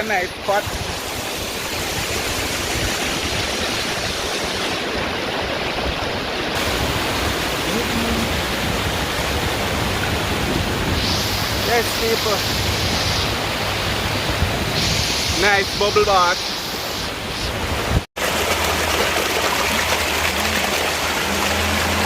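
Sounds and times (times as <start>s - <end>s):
water rushing over waterfall: 0.0s - 22.0s.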